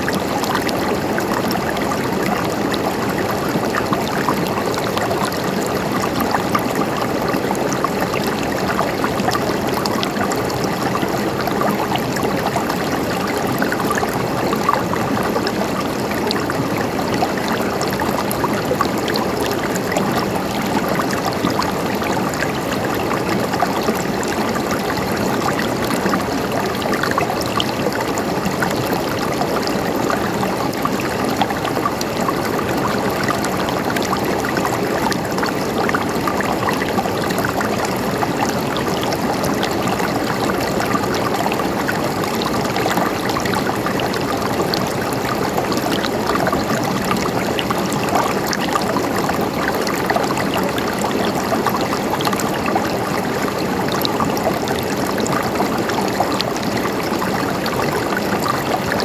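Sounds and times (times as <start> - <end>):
stream gurgling over rocks: 0.0 - 59.0.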